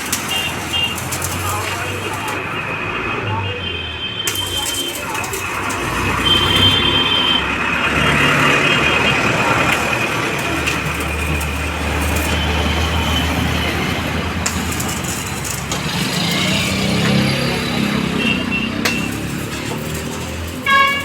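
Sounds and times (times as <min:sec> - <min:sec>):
welding arc crackling: 0:00.0 - 0:03.1, 0:03.8 - 0:21.0.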